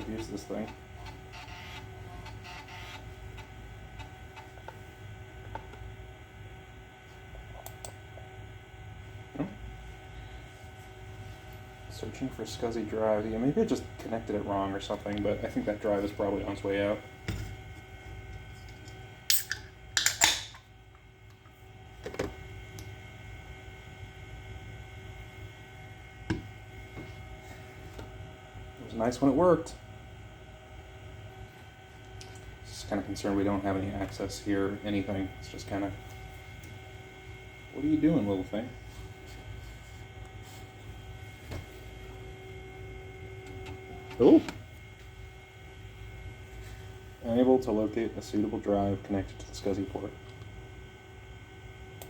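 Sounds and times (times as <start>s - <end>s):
computer hum: 0.0s - 20.0s, 20.6s - 52.0s
faint constant whine: 0.0s - 52.0s.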